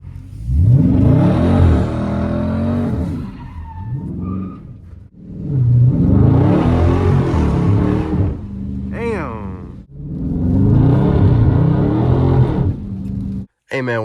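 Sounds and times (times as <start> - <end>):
car engine revving: 0.0 - 3.4, 5.1 - 13.5.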